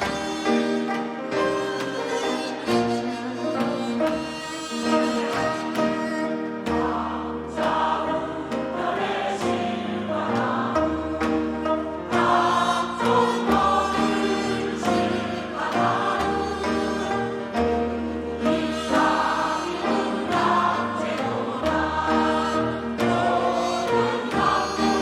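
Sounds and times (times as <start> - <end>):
choir singing a hymn: 0.0 - 25.0
instrumental accompaniment: 0.0 - 25.0.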